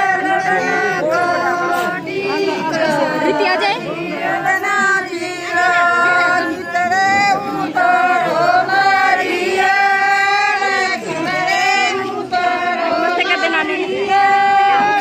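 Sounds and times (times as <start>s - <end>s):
women singing together: 0.0s - 15.0s.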